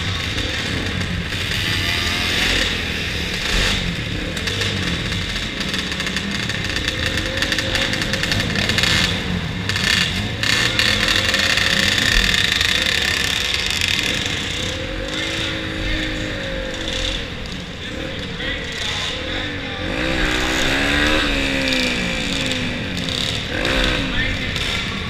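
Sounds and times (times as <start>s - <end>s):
motorcycle engines idling: 0.0s - 25.0s.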